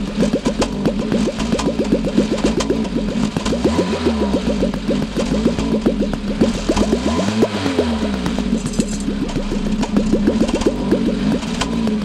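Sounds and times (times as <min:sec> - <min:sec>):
car exhaust rattling buzz: 0:00.0 - 0:12.0.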